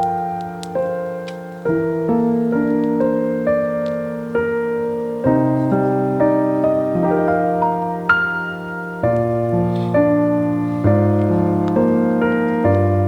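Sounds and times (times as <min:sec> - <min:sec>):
gentle piano piece: 0:00.0 - 0:13.0.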